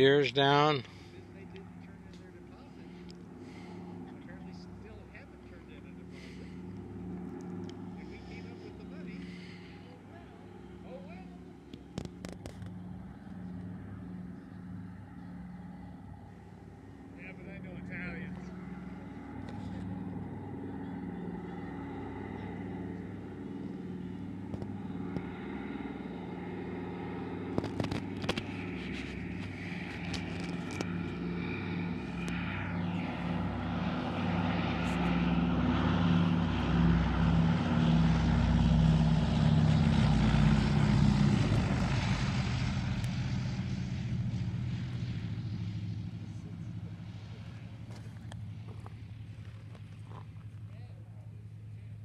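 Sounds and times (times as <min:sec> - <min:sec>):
propeller aircraft engines droning: 0:00.0 - 0:52.0.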